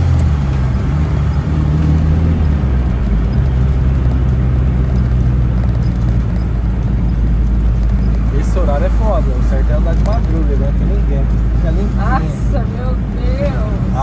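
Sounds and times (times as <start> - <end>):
car engine drone in cabin: 0.0 - 14.0.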